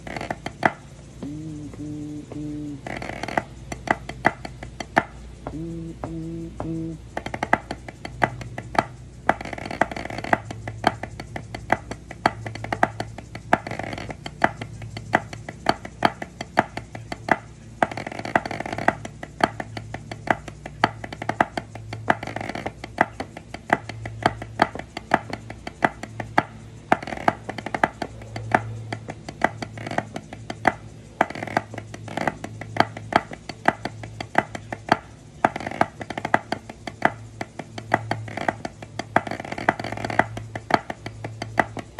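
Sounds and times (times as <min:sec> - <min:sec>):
drumsticks on practice pad: 0:00.0 - 0:41.9.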